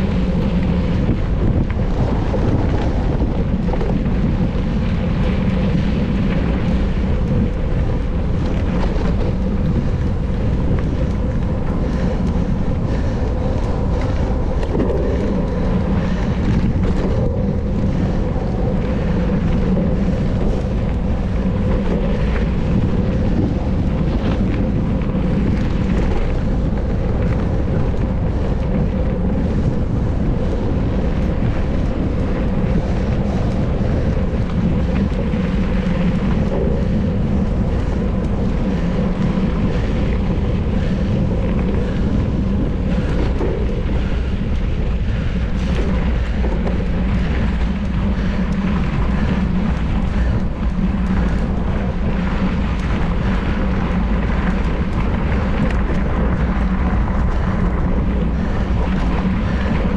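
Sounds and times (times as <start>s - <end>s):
mountain bike tyre rumble: 0.0s - 59.9s
wind rushing over microphone: 0.0s - 59.9s.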